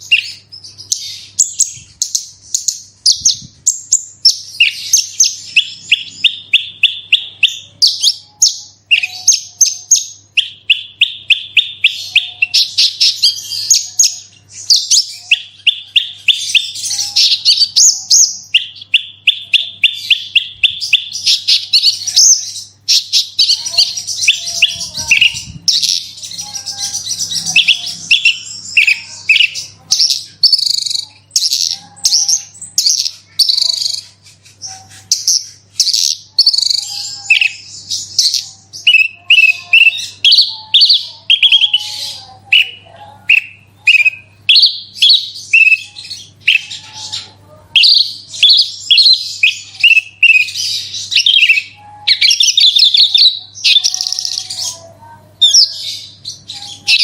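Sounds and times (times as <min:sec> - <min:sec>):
lark singing: 0:00.0 - 0:57.0.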